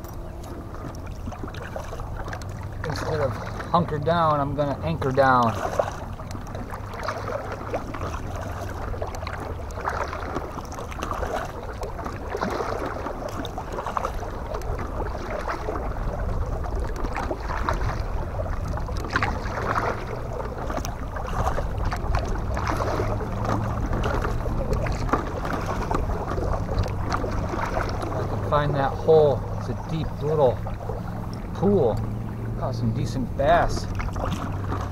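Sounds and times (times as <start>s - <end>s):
paddle splashing in water: 0.0s - 34.9s
wind rumble on microphone: 4.4s - 34.9s.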